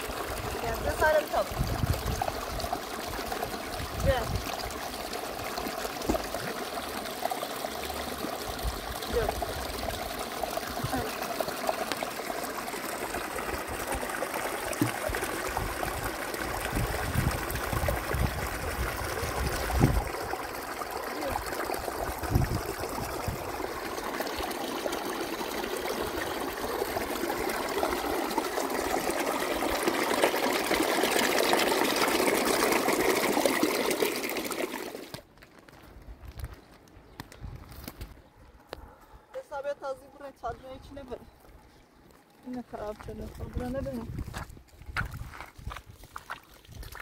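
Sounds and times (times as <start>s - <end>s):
running water trickling and splashing: 0.0s - 35.3s, 42.5s - 47.0s.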